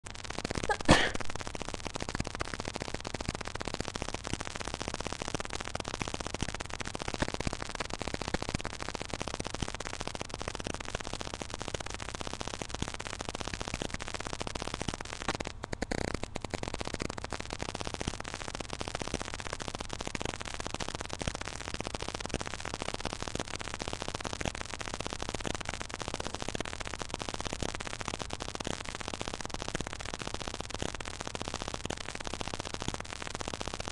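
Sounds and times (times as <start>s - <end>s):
static hiss: 0.1s - 33.9s.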